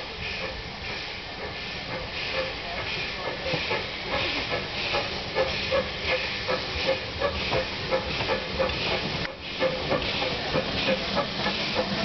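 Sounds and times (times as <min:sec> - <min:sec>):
steady hiss of steam: 0:00.0 - 0:12.0
steam locomotive exhaust beats: 0:00.0 - 0:12.0.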